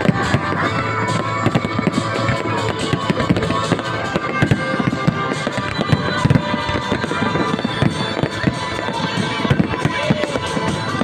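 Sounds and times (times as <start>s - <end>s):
firework bangs and crackles: 0.0s - 11.0s
music over loudspeakers: 0.0s - 11.0s.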